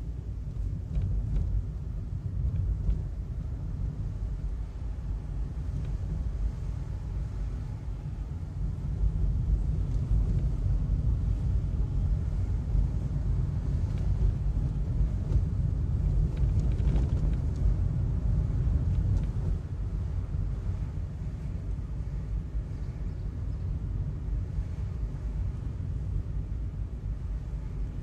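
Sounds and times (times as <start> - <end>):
car engine and tyres rumbling: 0.0 - 28.0.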